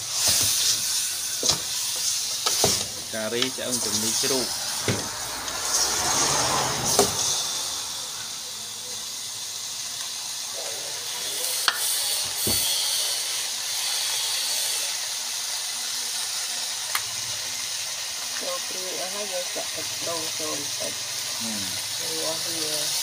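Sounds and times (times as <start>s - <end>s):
curry sizzling in a pot: 0.0s - 23.0s.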